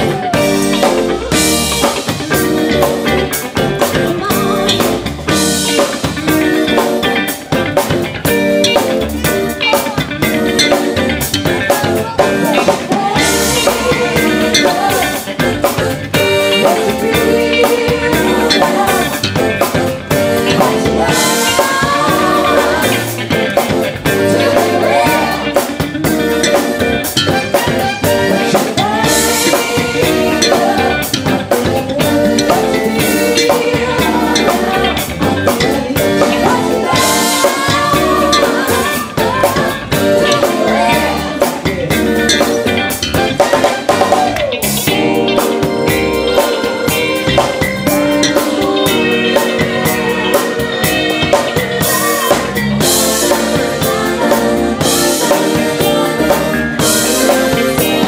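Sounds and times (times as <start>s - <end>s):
people singing: 0.0s - 7.9s, 9.6s - 58.0s
drum kit: 0.0s - 58.0s
electric bass: 0.0s - 58.0s
guitar: 0.0s - 58.0s.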